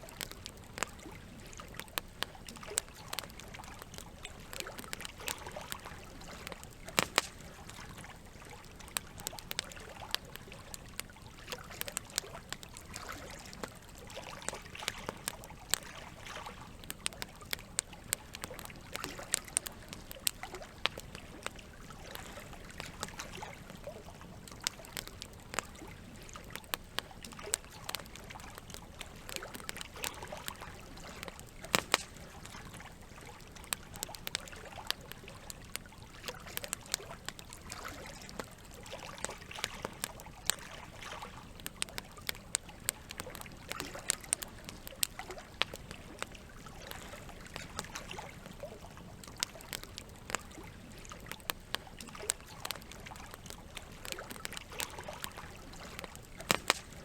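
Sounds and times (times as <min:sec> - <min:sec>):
campfire crackling and popping: 0:00.0 - 0:57.0
trickling water: 0:00.0 - 0:57.0.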